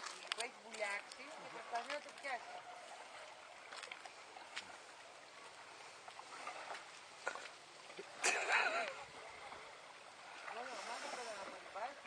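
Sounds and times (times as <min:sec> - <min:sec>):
water splashing and lapping: 0:00.0 - 0:12.0.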